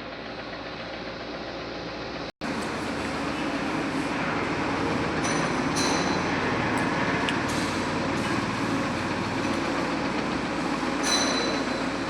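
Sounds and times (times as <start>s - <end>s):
mechanical rumble: 0.0s - 12.0s.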